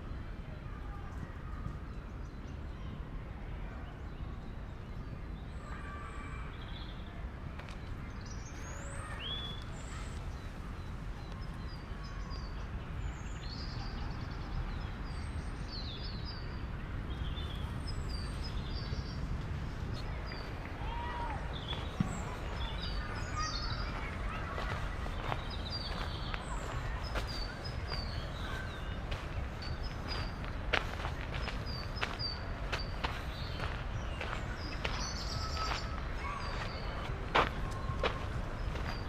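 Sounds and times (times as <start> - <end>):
birds chirping: 4.2 - 39.0
distant city rumble: 7.2 - 39.0.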